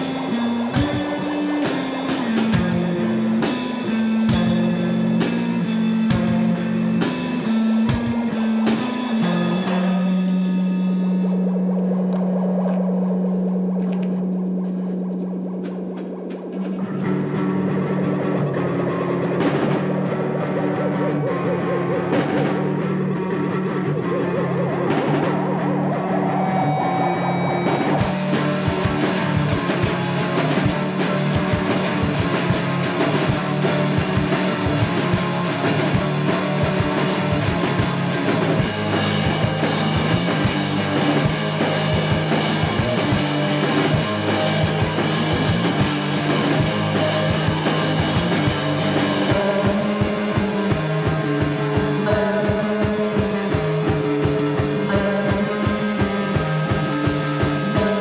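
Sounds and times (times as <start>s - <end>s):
rock music with steady beat: 0.0s - 58.0s.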